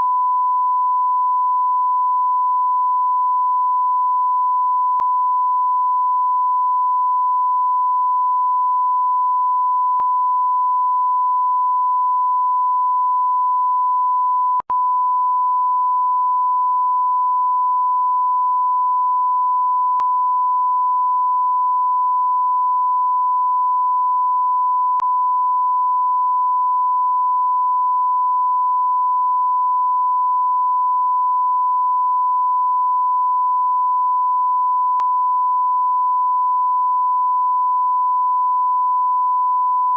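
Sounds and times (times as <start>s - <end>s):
censor bleep tone: 0.0s - 39.9s.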